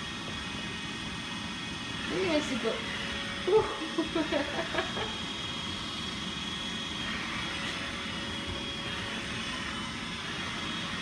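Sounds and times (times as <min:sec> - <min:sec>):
robot vacuum whirring: 0:02.0 - 0:11.0.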